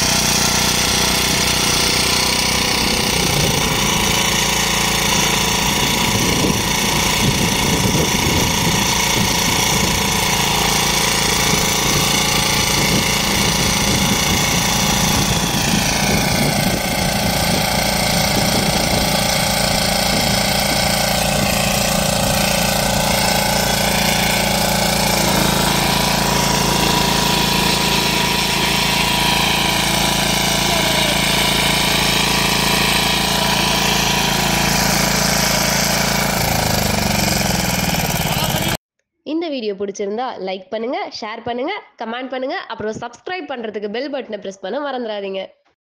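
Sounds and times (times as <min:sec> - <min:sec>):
power weeder engine running: 0:00.0 - 0:38.8.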